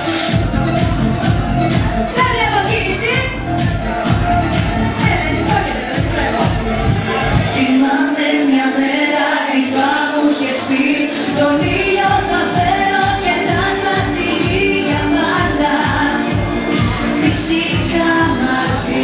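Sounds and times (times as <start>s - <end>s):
drums and bass beat: 0.0s - 7.8s, 11.4s - 19.0s
live pop music: 0.0s - 19.0s
woman singing: 0.3s - 19.0s.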